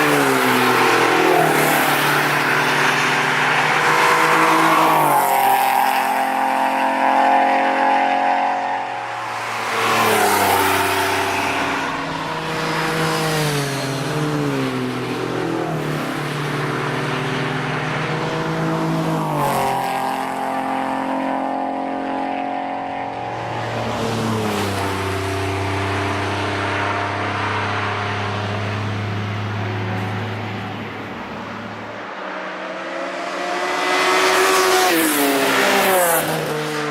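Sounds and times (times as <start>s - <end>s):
car engines passing by: 0.0s - 36.9s.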